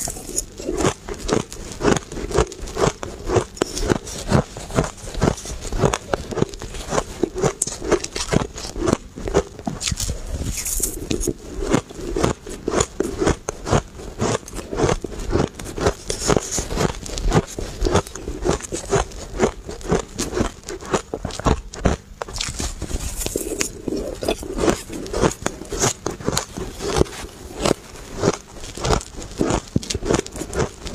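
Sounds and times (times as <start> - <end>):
shaved ice being chewed: 0.0 - 30.9.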